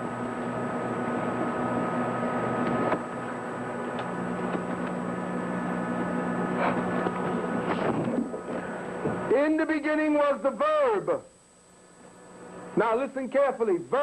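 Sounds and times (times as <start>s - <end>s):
lower hum tone: 0.0s - 12.9s
electrical hum: 0.0s - 14.0s.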